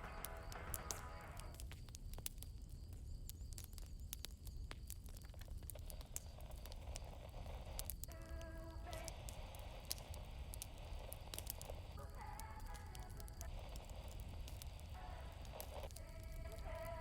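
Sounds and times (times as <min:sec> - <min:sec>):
campfire crackling: 0:00.0 - 0:17.0
crickets chirping: 0:00.0 - 0:17.0
fire low rumble: 0:00.0 - 0:17.0.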